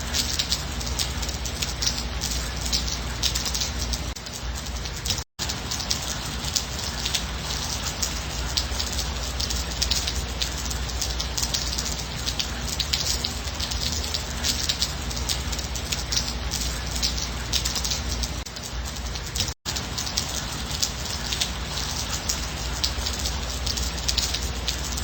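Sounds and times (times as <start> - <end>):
gentle rain: 0.0 - 25.0.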